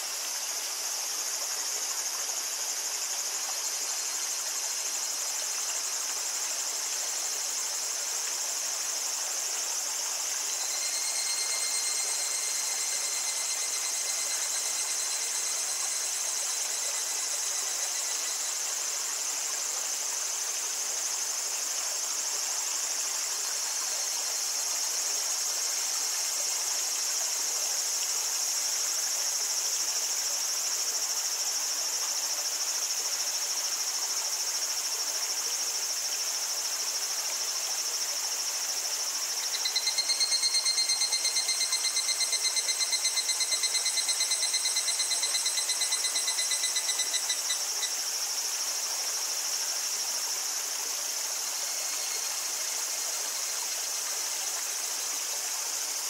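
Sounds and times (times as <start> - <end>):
cicadas singing: 0.0 - 56.0
stream trickling: 0.0 - 56.0.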